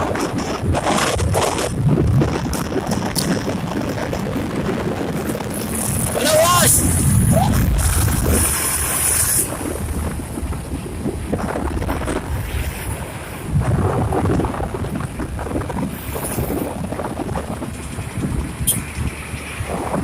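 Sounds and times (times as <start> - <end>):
road traffic noise: 0.0 - 20.0
wind buffeting microphone: 0.0 - 20.0.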